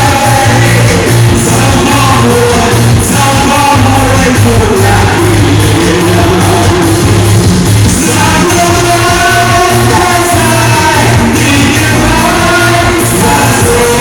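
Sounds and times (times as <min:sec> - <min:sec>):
singing over a band: 0:00.0 - 0:14.0.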